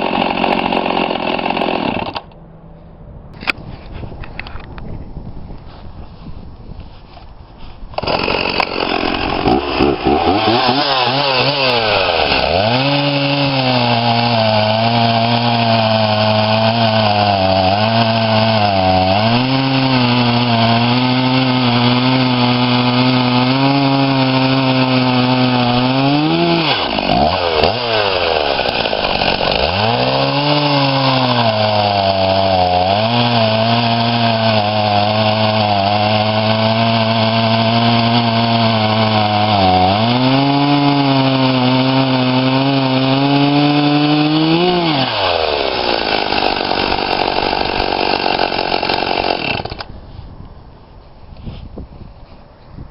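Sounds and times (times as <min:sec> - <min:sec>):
chainsaw running at high revs: 0:00.0 - 0:02.3, 0:08.0 - 0:49.9.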